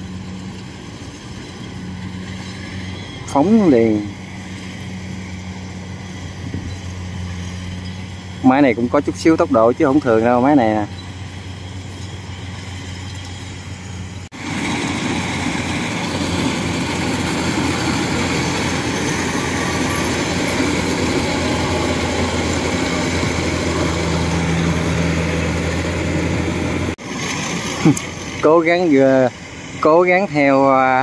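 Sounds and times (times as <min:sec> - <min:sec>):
combine engine and threshing: 0:00.0 - 0:31.0
distant diesel engine drone: 0:00.0 - 0:31.0.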